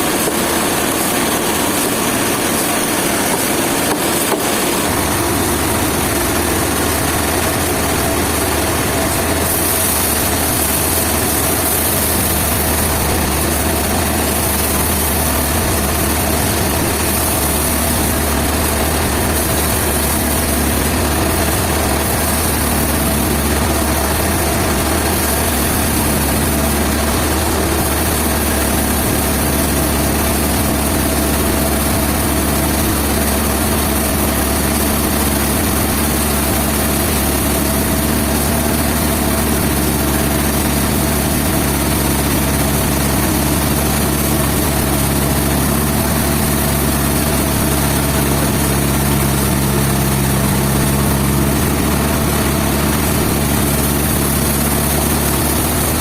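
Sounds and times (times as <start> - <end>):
engine running steadily: 0.0 - 56.0
even hiss: 0.0 - 56.0.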